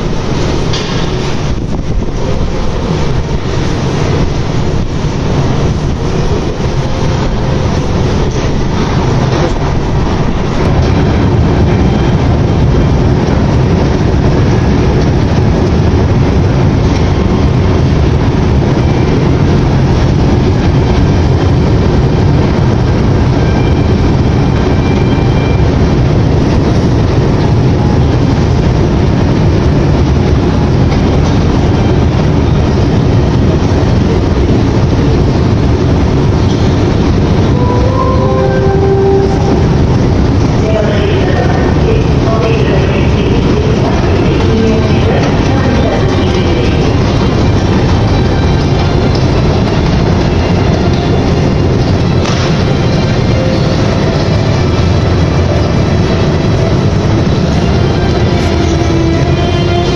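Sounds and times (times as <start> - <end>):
metro train rumbling: 0.0 - 59.9.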